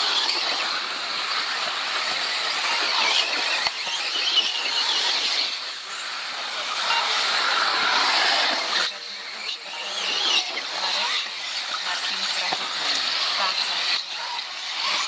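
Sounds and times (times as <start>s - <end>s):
model cars motors whirring: 0.0s - 15.0s.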